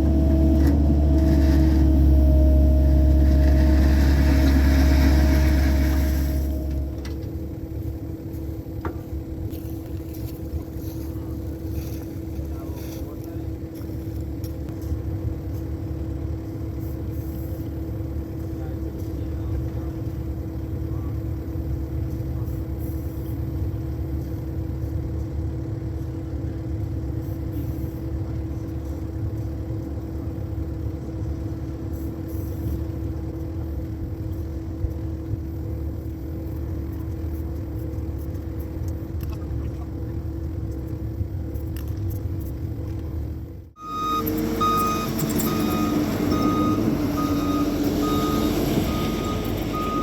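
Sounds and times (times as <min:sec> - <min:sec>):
constant steady tone: 0:00.0 - 0:50.0
excavator diesel engine running: 0:00.0 - 0:50.0.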